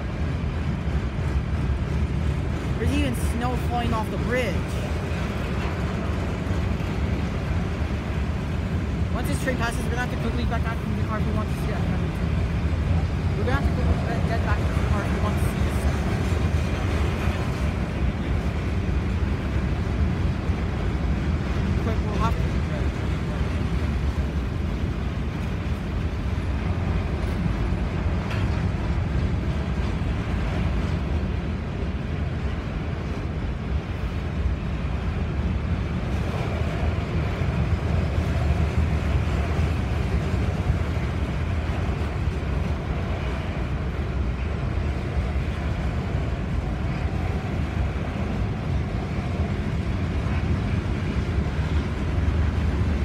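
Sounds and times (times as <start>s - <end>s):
train wheels rumbling on bridge: 0.0s - 53.0s.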